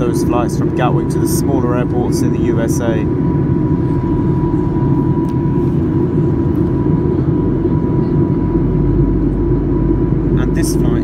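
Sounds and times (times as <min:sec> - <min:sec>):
airplane cabin rumble: 0:00.0 - 0:11.0
thin steady whine: 0:00.0 - 0:11.0.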